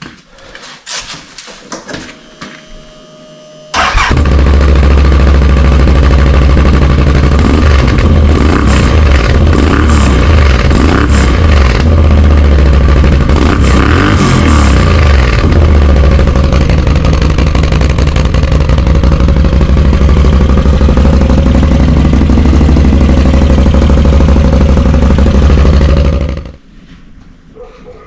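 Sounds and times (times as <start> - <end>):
engine revving and idling: 3.6 - 26.6.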